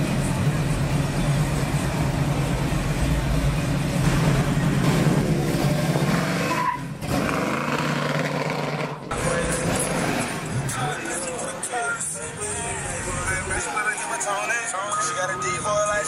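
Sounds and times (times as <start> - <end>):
car engine rumbling: 0.0 - 13.8.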